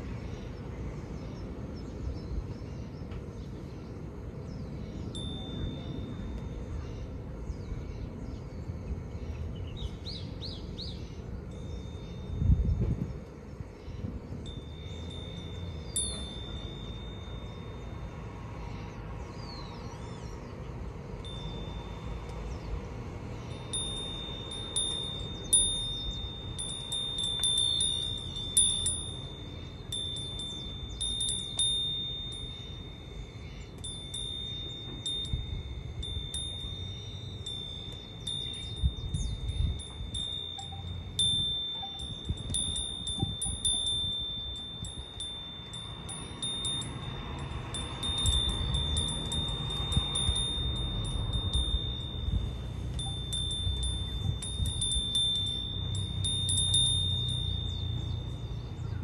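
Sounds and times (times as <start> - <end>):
wind chime tinkling: 4.4 - 7.7, 10.3 - 59.0.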